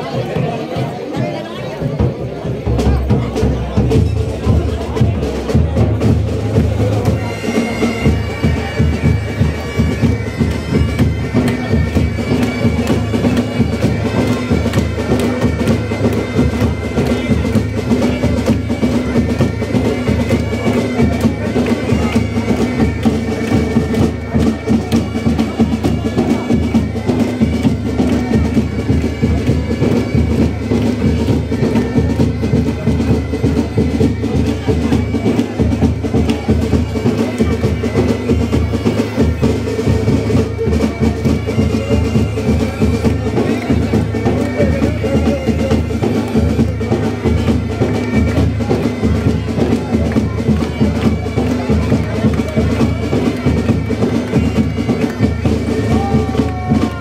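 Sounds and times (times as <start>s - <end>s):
drums beating rapidly: 0.0s - 57.0s
bagpipes playing melody: 2.8s - 57.0s.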